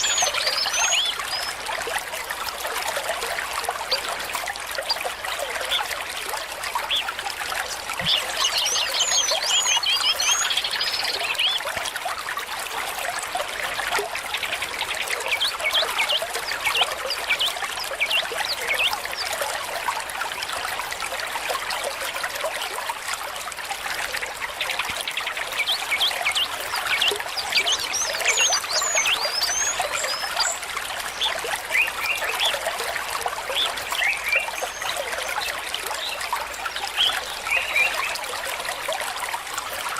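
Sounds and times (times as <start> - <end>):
stream trickling and bubbling: 0.0 - 39.9.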